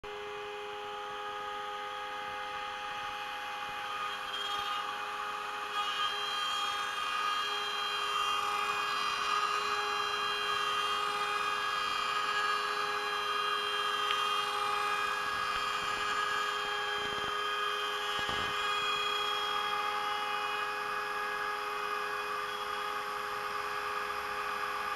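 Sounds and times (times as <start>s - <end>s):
router spindle whining: 0.0s - 24.9s.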